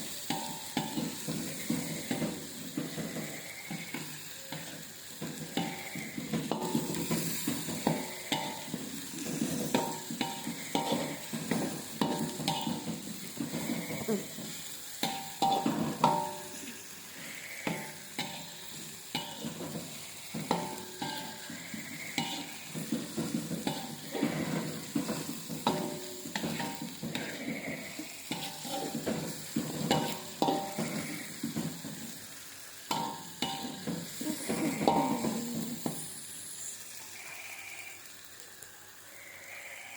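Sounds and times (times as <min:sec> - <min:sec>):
knocks ringing against a pan: 0:00.0 - 0:16.6, 0:17.6 - 0:32.1, 0:32.9 - 0:36.1
metal utensil scraping a pan: 0:00.0 - 0:32.3, 0:32.9 - 0:36.2
food sizzling in a pan: 0:00.0 - 0:39.9.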